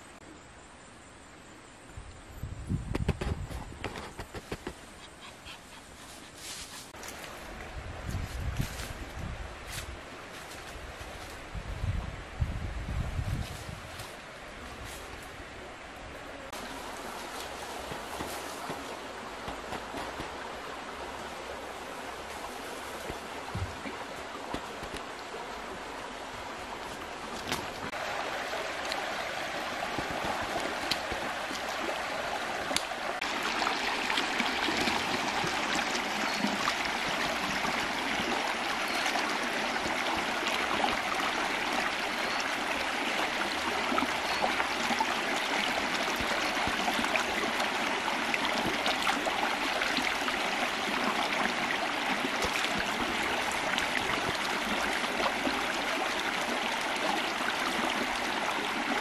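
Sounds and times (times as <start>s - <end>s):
stream running over rocks: 6.9s - 59.0s.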